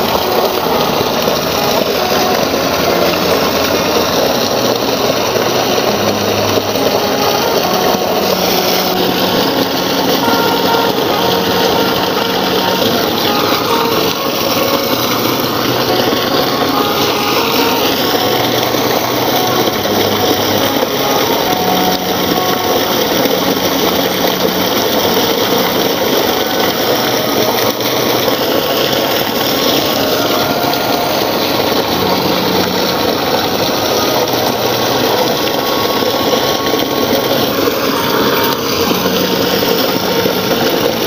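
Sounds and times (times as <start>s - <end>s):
loud machine noise: 0.0s - 41.0s.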